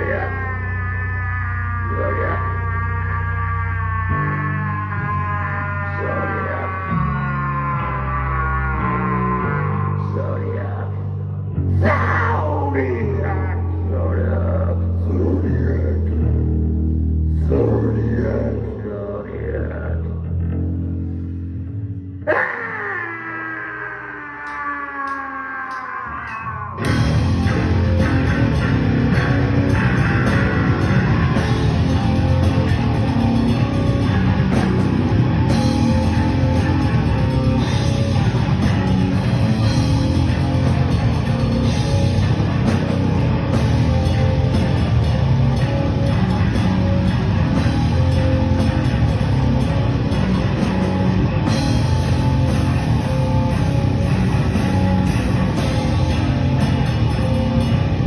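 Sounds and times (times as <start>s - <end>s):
heavy metal band playing: 0.0s - 10.9s, 11.6s - 16.8s, 22.2s - 58.0s.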